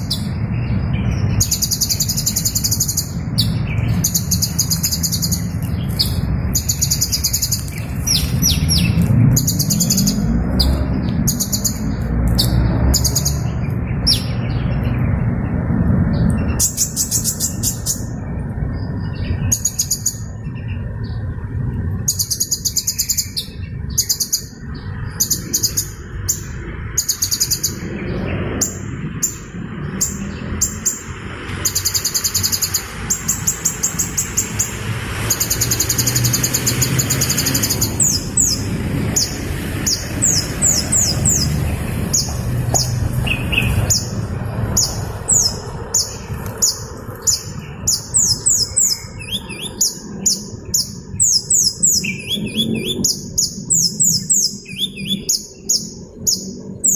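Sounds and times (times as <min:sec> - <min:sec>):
hummingbird twittering: 0:00.0 - 0:15.0, 0:16.1 - 0:18.2, 0:22.0 - 0:56.9.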